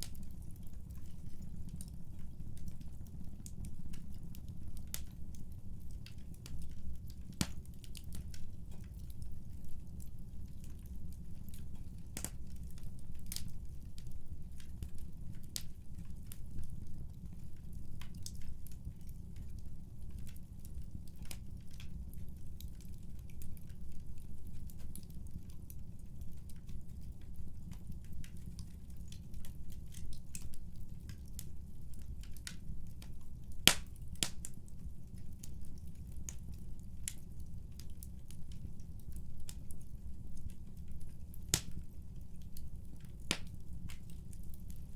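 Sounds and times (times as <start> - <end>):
fire low rumble: 0.0 - 44.9
wood fire crackles and pops: 0.0 - 44.9.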